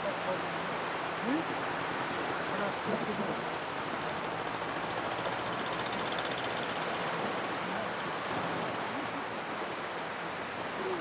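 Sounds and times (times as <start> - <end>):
waves washing onto a beach: 0.0 - 11.0.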